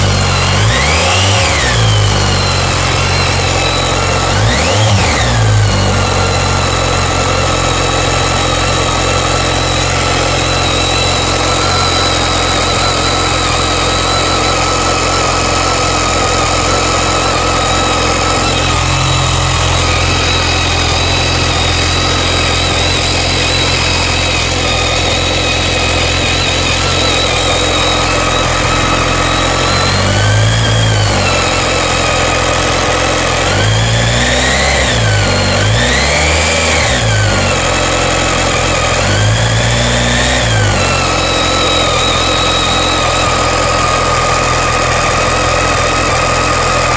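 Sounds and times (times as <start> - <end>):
high-pitched screechy whine: 0.0 - 46.9
motorcycle engine idling: 0.0 - 46.9.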